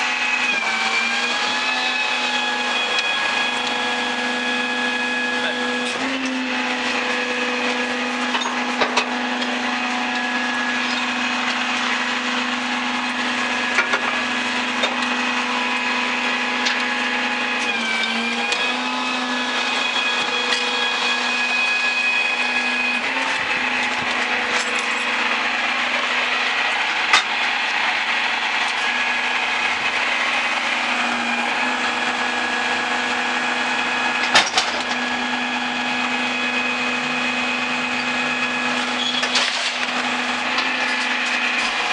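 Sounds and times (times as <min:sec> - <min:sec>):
garbage truck hydraulic whine: 0:00.0 - 0:41.9.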